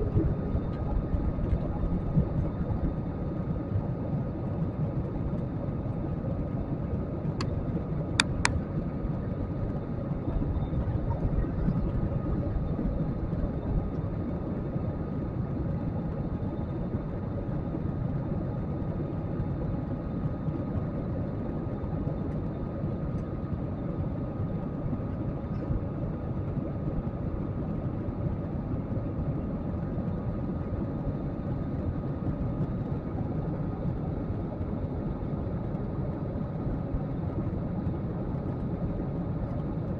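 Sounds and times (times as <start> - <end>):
faint steady whine: 0.0 - 39.9
jet engines and airflow rushing: 0.0 - 39.9.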